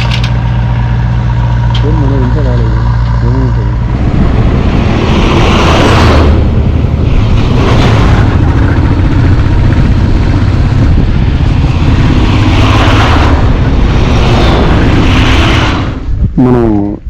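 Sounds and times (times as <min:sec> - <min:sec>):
motorcycle engine running: 0:00.0 - 0:15.3
wind rumble on microphone: 0:00.0 - 0:17.0.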